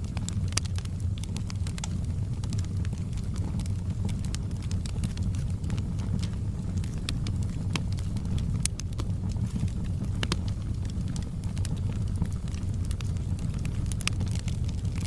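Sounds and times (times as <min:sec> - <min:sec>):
fire crackling and popping: 0:00.0 - 0:15.0
low rumble of burning: 0:00.0 - 0:15.0.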